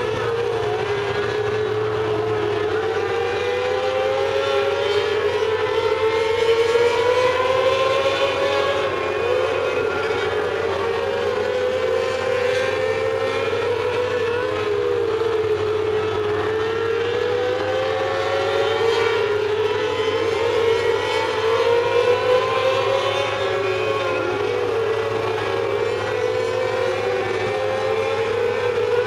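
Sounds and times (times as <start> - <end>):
racing car engines whining: 0.0 - 29.0.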